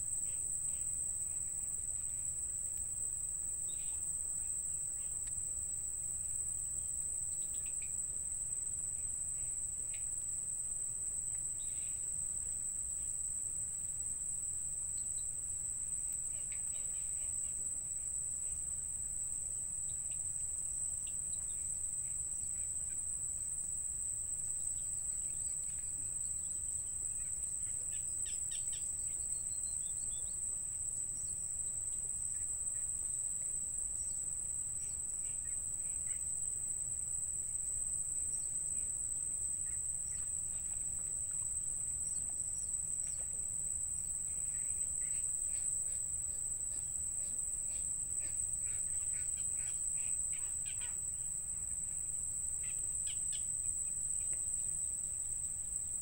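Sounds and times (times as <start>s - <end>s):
insects droning whine: 0.0s - 56.0s.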